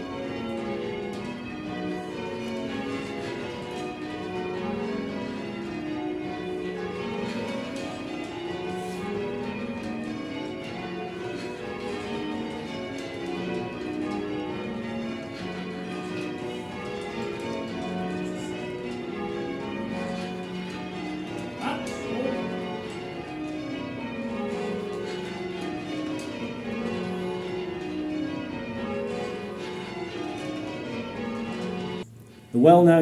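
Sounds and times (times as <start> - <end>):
church bells ringing: 0.0 - 33.0.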